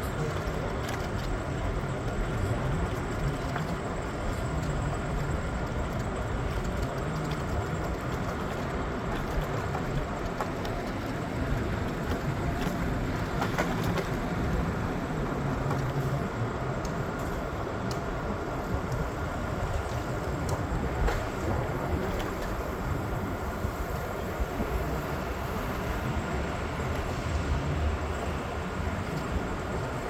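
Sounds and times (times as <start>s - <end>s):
train rumbling and rattling: 0.0s - 30.0s.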